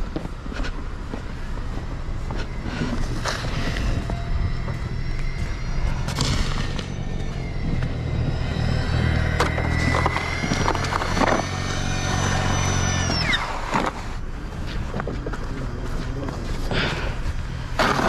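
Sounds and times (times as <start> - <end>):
engine running with high whine: 0.0 - 18.0.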